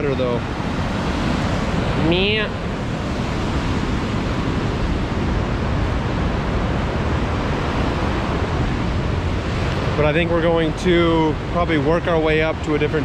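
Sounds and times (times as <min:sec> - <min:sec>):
whitewater rushing over rocks: 0:00.0 - 0:13.0.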